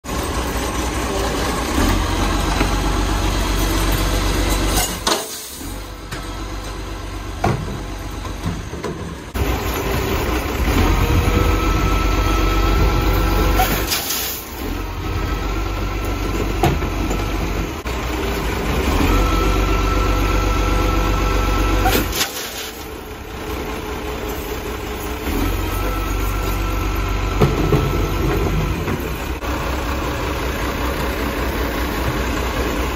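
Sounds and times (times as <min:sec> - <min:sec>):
diesel garbage truck engine: 0:00.0 - 0:32.9.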